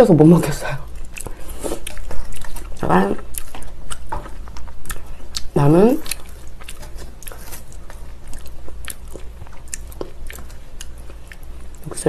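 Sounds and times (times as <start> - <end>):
person chewing noodles: 0.8 - 12.0.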